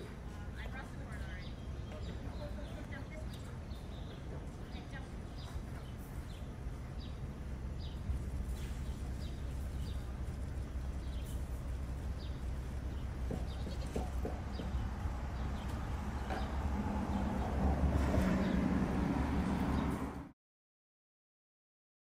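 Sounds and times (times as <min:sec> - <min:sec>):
steady low rumble: 0:00.0 - 0:20.3.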